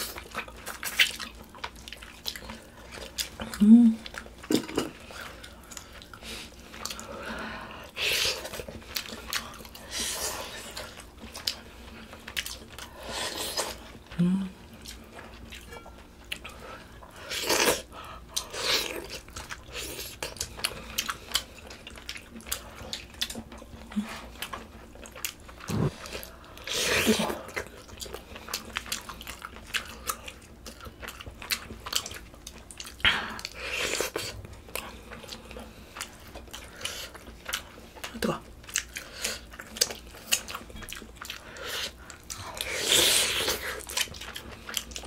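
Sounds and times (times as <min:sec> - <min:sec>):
chewing with wet mouth clicks: 0:00.0 - 0:07.2, 0:07.8 - 0:45.0.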